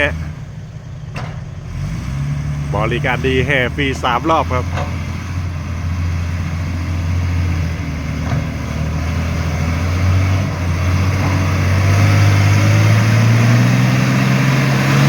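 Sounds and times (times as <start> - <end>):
truck diesel engine under load: 0.0 - 15.0.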